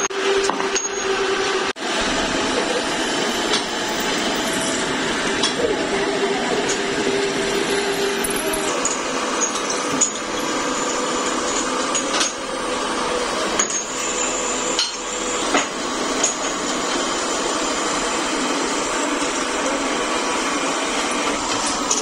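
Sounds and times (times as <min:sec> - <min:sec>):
drill press running: 0:00.0 - 0:22.0.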